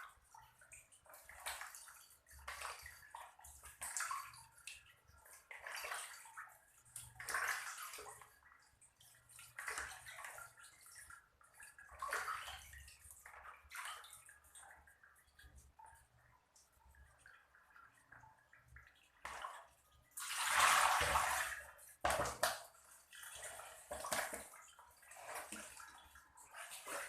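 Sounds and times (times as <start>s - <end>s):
water sloshing in a basin: 0.0s - 27.0s.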